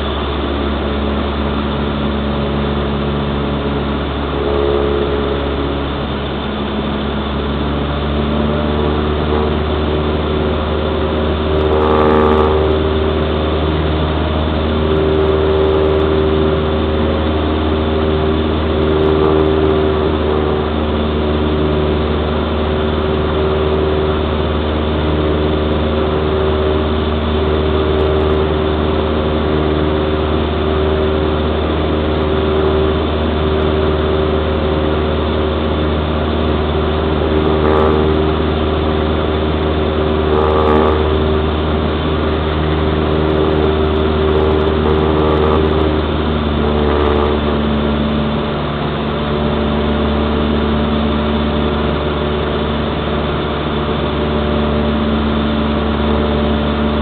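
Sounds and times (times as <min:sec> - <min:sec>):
propeller plane engine drone: 0:00.0 - 0:57.0.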